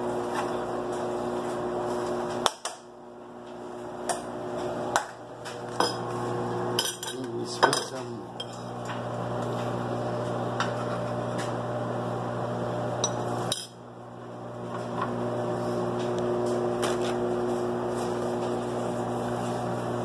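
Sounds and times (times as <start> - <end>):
machine hum: 3.0 - 20.0.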